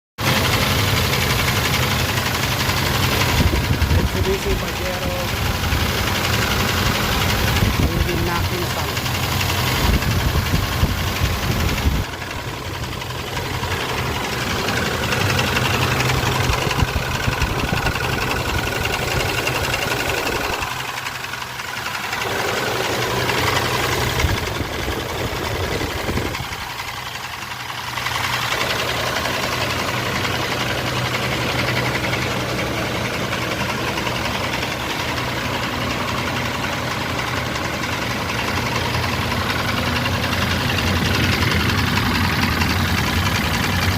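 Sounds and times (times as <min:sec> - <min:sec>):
engine idling with knock: 0:00.2 - 0:43.9.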